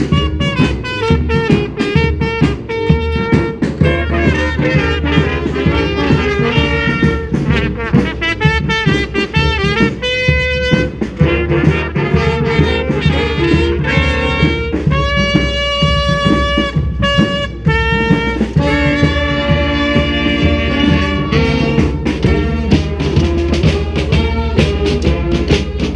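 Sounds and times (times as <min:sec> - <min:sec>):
brass band playing: 0:00.0 - 0:25.9.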